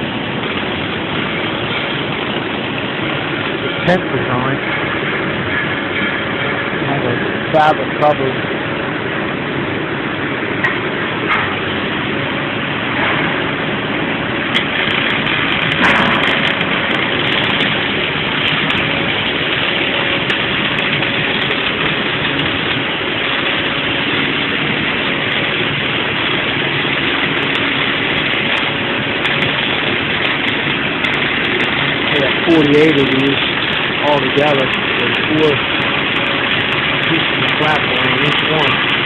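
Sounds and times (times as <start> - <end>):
loud machinery noise: 0.0 - 39.0.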